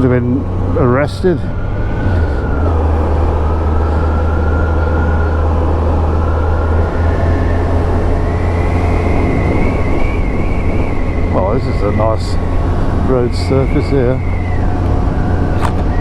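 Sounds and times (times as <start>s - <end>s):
faint whine rising in pitch: 0.0s - 16.0s
motorcycle engine running: 0.0s - 16.0s
wind rumble: 0.0s - 16.0s.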